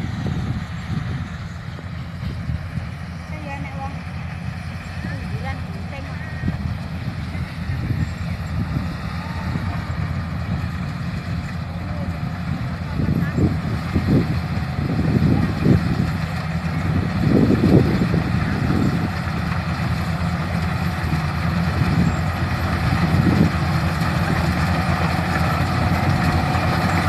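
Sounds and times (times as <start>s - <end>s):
combine harvester engine droning: 0.0s - 27.0s.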